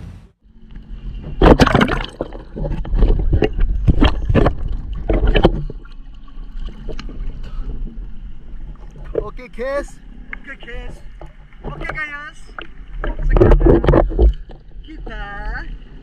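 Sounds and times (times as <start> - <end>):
water splashing and sloshing: 0.4 - 16.0.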